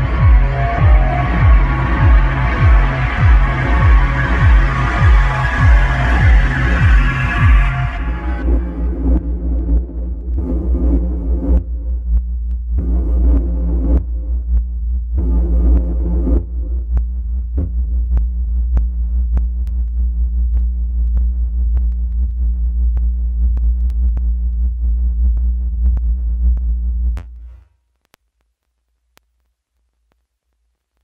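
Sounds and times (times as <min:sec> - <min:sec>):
electronic music with deep bass: 0:00.0 - 0:27.6.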